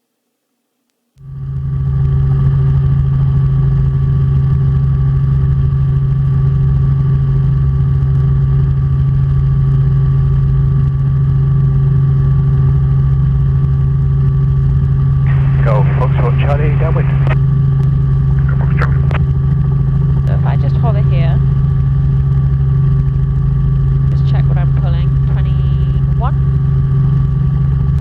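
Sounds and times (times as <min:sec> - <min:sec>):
helicopter engine and rotor drone: 0:01.4 - 0:28.0.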